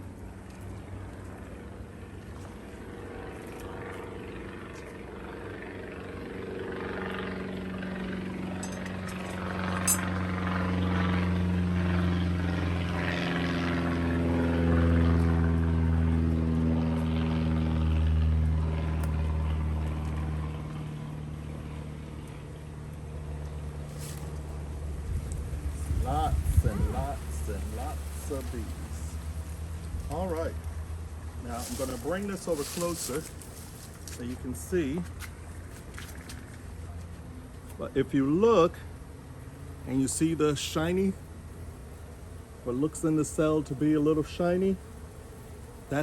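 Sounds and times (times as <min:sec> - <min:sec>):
passing engine droning: 0:00.0 - 0:46.0.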